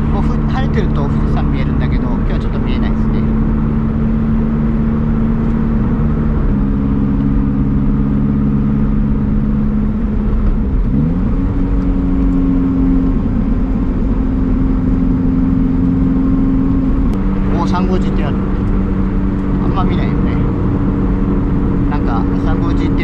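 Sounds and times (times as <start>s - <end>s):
car engine running: 0.0s - 23.0s
low road noise: 0.0s - 23.0s.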